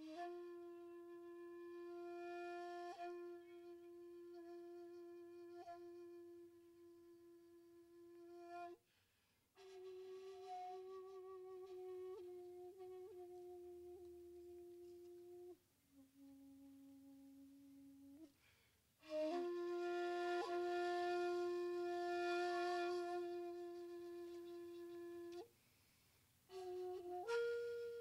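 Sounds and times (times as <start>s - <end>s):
bamboo flute playing slow notes: 0.0s - 8.9s, 9.5s - 25.6s, 26.5s - 28.0s.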